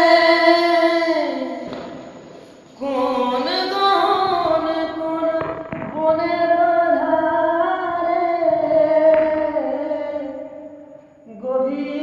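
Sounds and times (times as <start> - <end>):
person singing unaccompanied: 0.0 - 1.7, 2.8 - 12.0.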